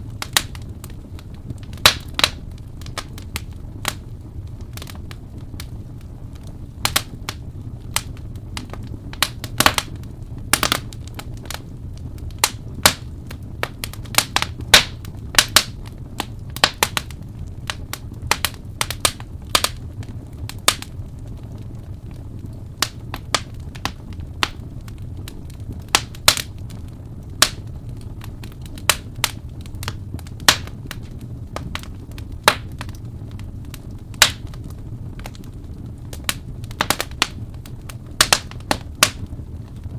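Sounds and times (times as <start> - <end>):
low rumble of burning: 0.0 - 39.9
wood fire crackling: 0.0 - 39.9.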